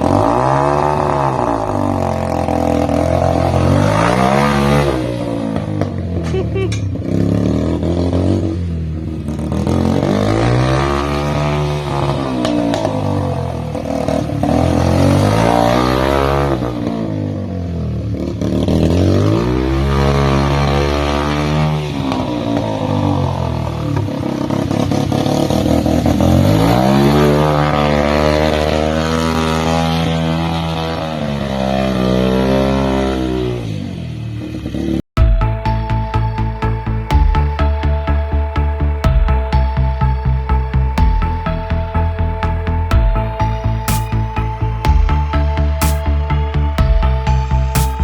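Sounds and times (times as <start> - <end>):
small engine revving: 0.0 - 48.0.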